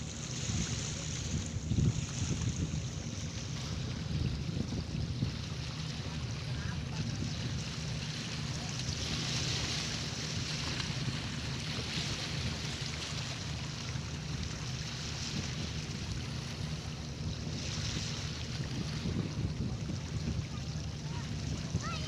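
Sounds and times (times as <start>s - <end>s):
sea waves washing: 0.0s - 22.0s
wind rumbling on microphone: 0.0s - 22.0s.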